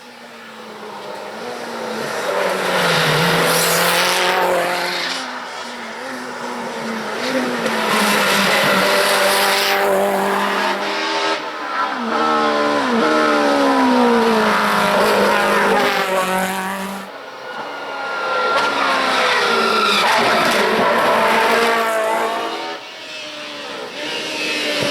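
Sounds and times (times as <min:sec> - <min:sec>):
race car engine accelerating: 0:01.7 - 0:24.9.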